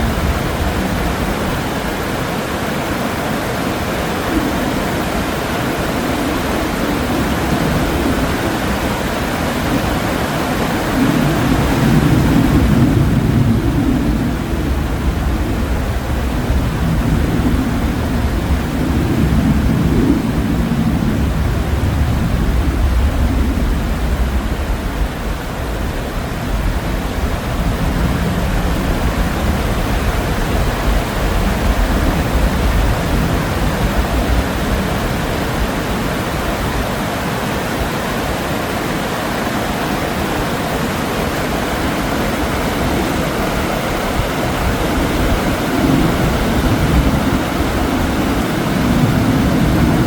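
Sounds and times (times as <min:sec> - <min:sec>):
flowing river water: 0:00.0 - 0:50.0.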